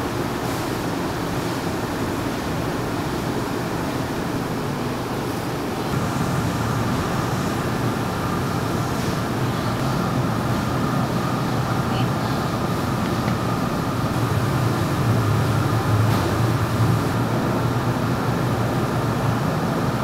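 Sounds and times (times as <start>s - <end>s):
kitchen machinery running: 0.0s - 20.0s.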